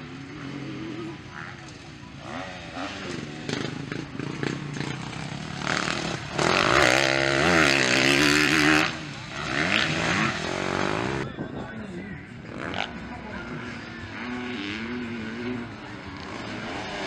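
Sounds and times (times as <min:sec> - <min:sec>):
dirt bike passing close: 0:00.0 - 0:11.4, 0:12.5 - 0:17.0
dirt bike engines revving: 0:00.0 - 0:17.0.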